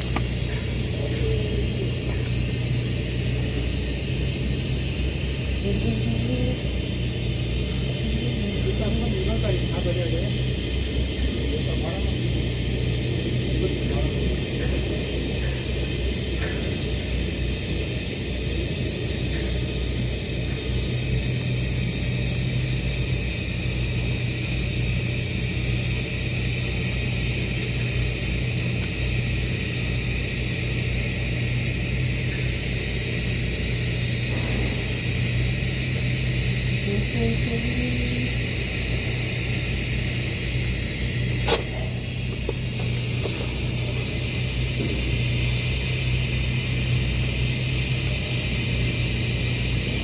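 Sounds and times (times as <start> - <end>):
low electrical hum: 0.0 - 50.0
welding arc hiss: 0.0 - 50.0.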